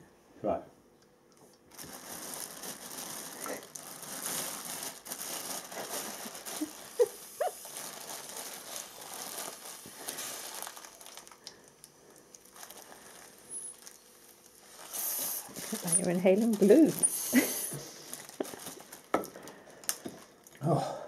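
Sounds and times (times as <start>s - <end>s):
plastic bag crinkling: 1.7s - 20.5s.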